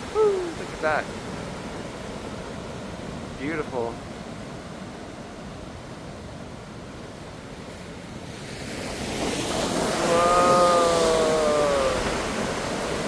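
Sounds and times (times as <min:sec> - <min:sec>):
ocean surf washing: 0:00.0 - 0:13.0.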